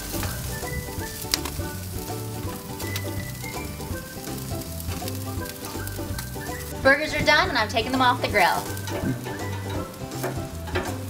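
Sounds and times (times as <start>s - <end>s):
background music with bass: 0.0s - 11.0s
grease pops and crackles: 0.0s - 11.0s
meat sizzling on a grill: 0.0s - 11.0s.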